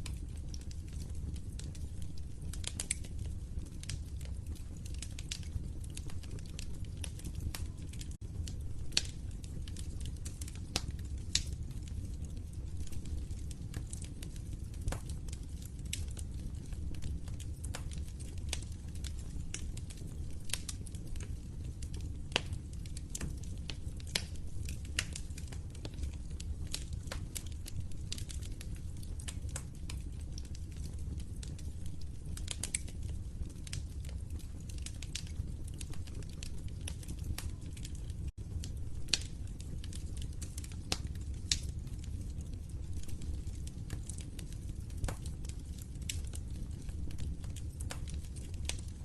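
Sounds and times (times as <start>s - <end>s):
low rumble of burning fire: 0.0s - 49.0s
wood fire crackling and popping: 0.0s - 49.0s.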